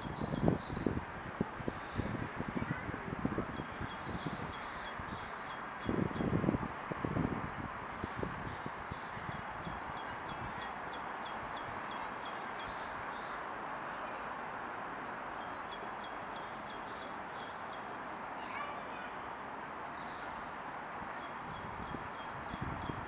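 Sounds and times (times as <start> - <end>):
outdoor background rush: 0.0 - 23.0.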